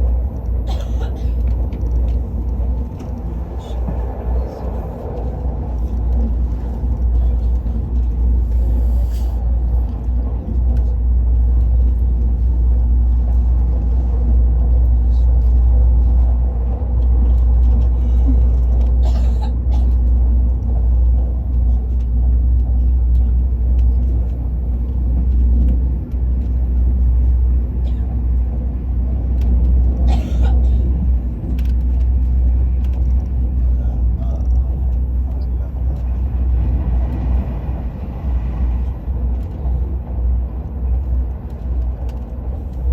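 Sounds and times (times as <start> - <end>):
train rumble from inside carriage: 0.0 - 42.9.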